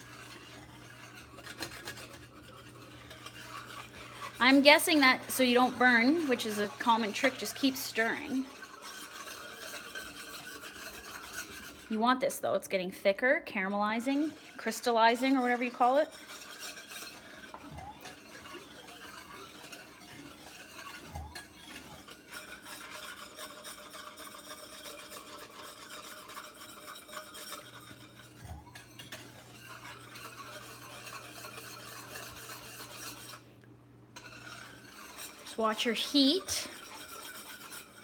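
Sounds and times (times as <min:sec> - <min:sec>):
whisk scraping metal skillet: 0:00.0 - 0:38.0.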